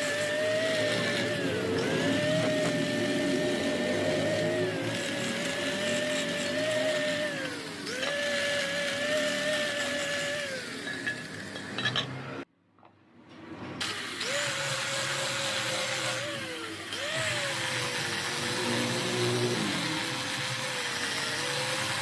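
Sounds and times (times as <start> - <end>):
electric power tool motor whining: 0.0 - 12.4, 13.8 - 22.0.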